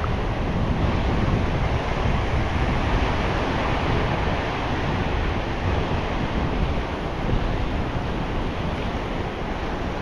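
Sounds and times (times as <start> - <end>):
surf washing through shallows: 0.0 - 10.0
wind buffeting microphone: 0.0 - 10.0.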